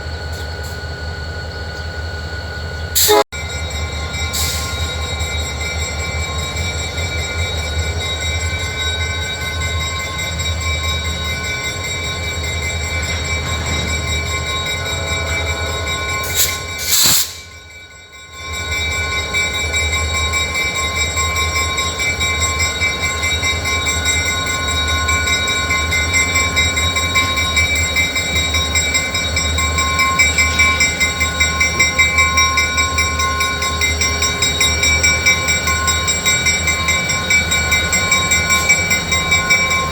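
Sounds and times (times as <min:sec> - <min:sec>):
locomotive diesel engine throbbing: 0:00.0 - 0:39.9.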